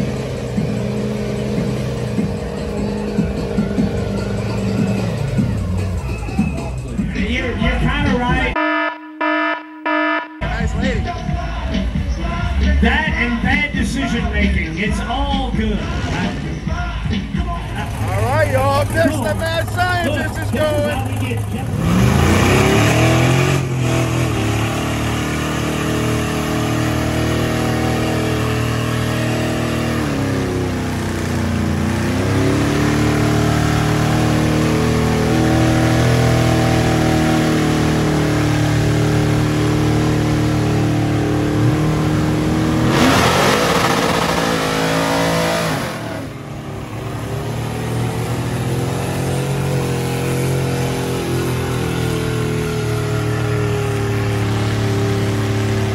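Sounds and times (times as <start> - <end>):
truck engine revving hard: 0.0 - 8.2, 15.4 - 55.9.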